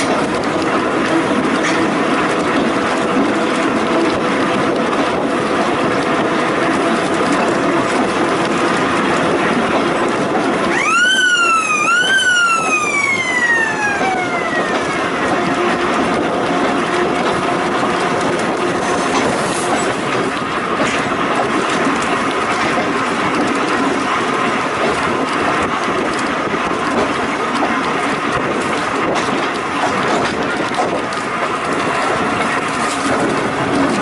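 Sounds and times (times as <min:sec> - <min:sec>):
railway car rolling on track: 0:00.0 - 0:34.0.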